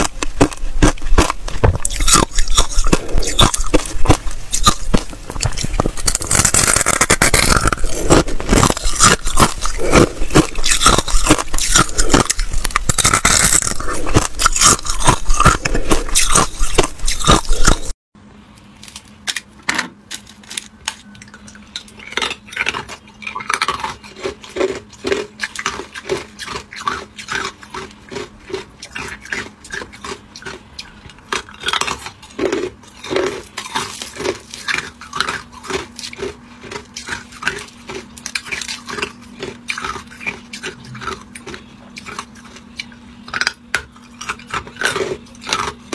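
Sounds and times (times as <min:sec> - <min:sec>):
ice crunching in teeth: 0:00.0 - 0:18.0, 0:20.1 - 0:45.9
faint steady hum: 0:00.0 - 0:45.9.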